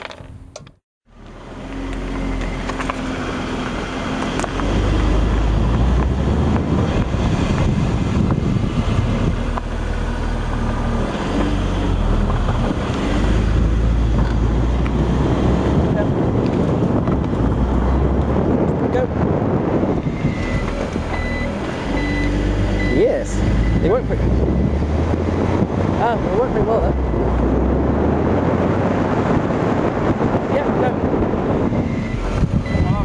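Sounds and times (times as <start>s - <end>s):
car engine: 0.0s - 33.0s
wind buffeting camera: 2.2s - 33.0s.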